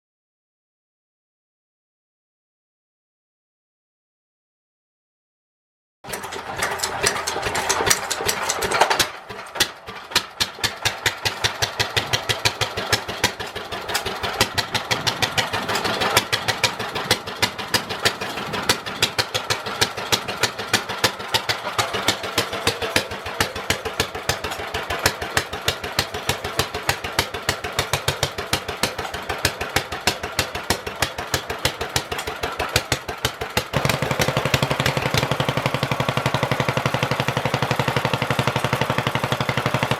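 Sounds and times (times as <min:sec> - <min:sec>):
stationary engine running: 0:06.1 - 0:39.9.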